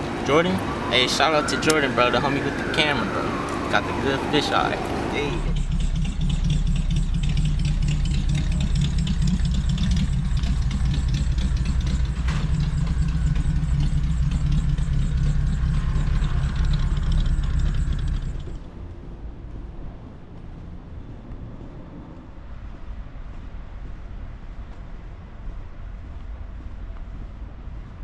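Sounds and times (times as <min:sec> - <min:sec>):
car engine low rumble: 0:00.0 - 0:28.0.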